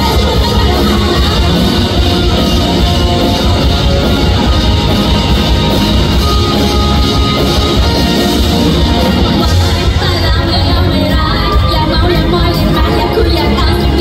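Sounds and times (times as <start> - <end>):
drums: 0.0 - 14.0
electric guitar: 0.0 - 14.0.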